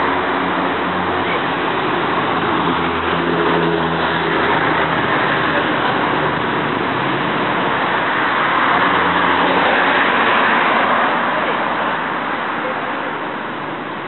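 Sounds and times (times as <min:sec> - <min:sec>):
passing car traffic: 0:00.0 - 0:14.0.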